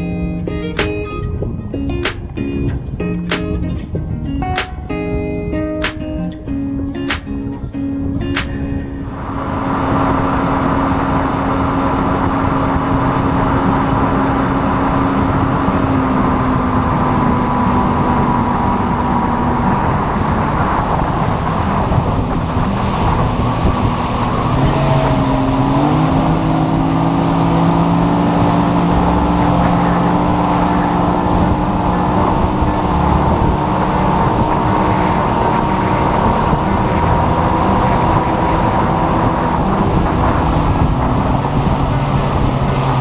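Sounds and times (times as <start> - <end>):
wind: 0.0 - 43.0
rushing water: 0.8 - 1.2, 2.0 - 2.4, 8.4 - 43.0.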